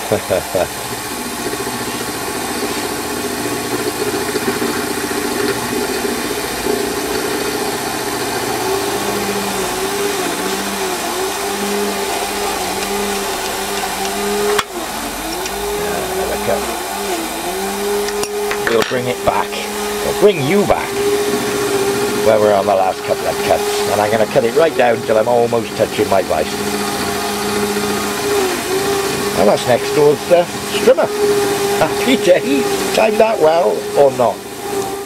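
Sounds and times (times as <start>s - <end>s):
milling machine drone: 0.0s - 35.0s
strimmer engine revving: 0.0s - 35.0s.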